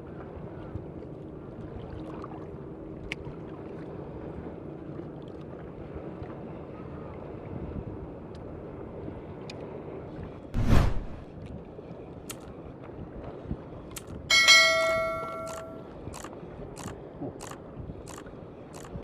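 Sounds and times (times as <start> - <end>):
low rumbling by water: 0.0 - 19.0.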